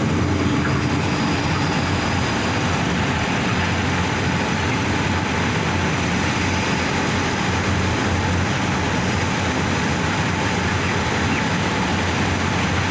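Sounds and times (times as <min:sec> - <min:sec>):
faint steady whine: 0:00.0 - 0:12.9
machinery drone: 0:00.0 - 0:12.9.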